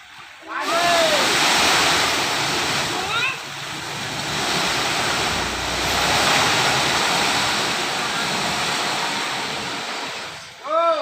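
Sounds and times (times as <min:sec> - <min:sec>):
steady hiss-like rushing noise: 0:00.5 - 0:10.8.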